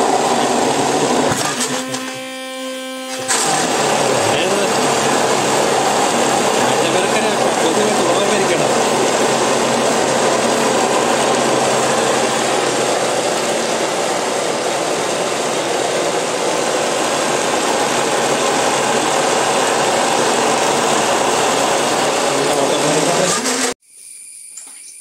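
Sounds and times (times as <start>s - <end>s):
steady machine noise: 0.0s - 23.8s.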